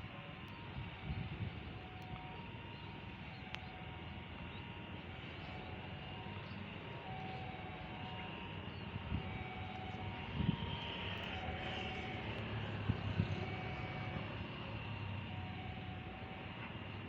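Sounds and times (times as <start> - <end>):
distant engine rumble: 0.0 - 17.0.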